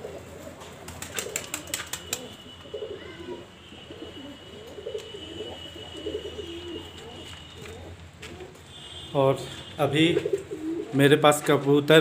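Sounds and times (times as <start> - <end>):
pigeons cooing: 0.0 - 8.6, 9.9 - 11.1.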